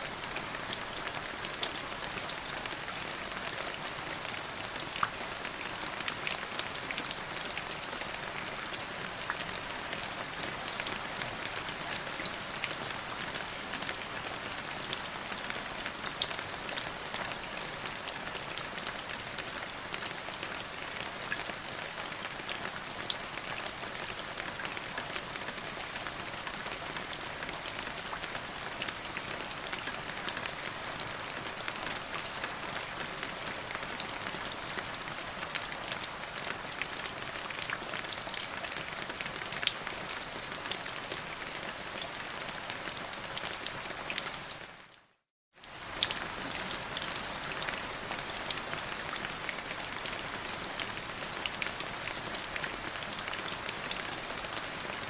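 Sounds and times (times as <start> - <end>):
rain pattering on surface: 0.0 - 55.0.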